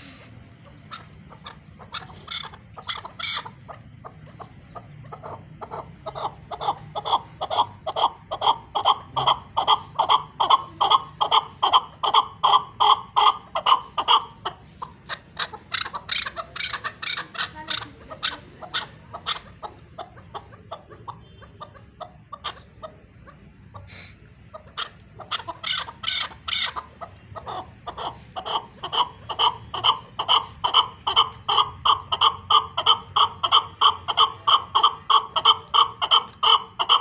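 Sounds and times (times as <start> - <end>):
partridge clucking calls: 0.0 - 37.0.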